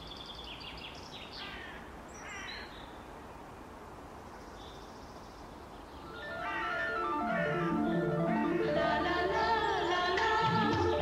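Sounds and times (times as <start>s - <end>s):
low steady hiss: 0.0s - 11.0s
small birds chirping faintly: 0.0s - 11.0s.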